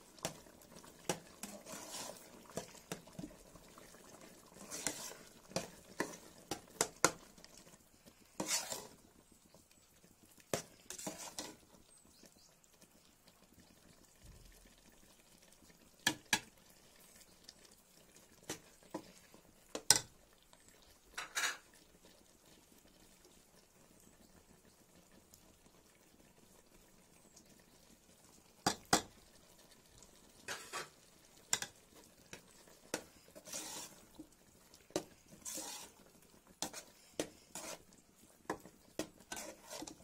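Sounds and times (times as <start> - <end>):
sauce bubbling: 0.0 - 40.0.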